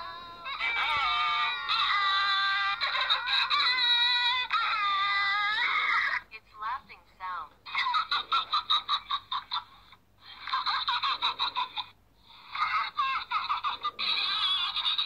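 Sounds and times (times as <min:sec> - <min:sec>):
high-pitched giggling through phone speaker: 0:00.0 - 0:06.3, 0:07.7 - 0:15.0.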